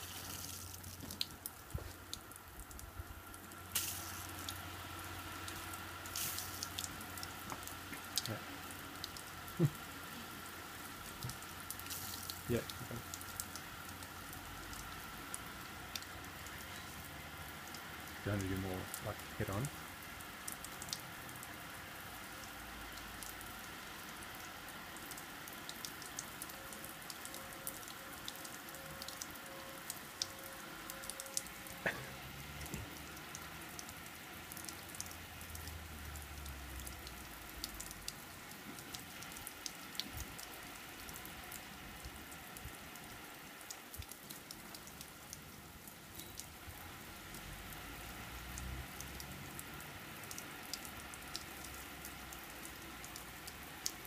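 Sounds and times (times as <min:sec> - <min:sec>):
water spray pattering on roof: 0:00.0 - 0:54.0.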